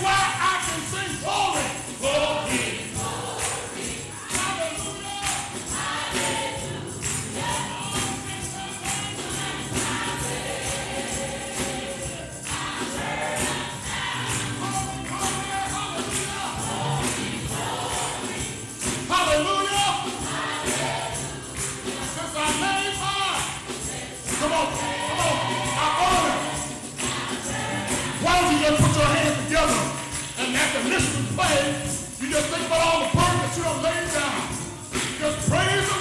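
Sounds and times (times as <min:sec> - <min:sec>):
gospel choir singing: 0:00.0 - 0:36.0
tambourine jingling: 0:00.0 - 0:36.0.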